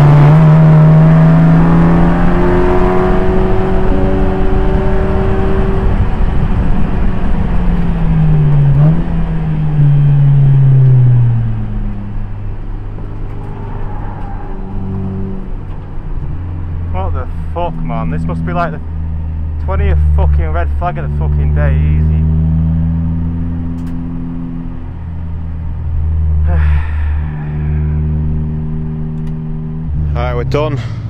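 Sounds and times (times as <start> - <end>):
race car engine under load: 0.0 - 31.0.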